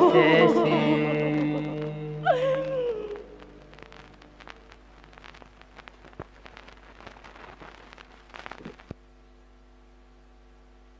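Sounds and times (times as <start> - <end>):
vinyl surface crackle and pops: 0.0 - 9.5.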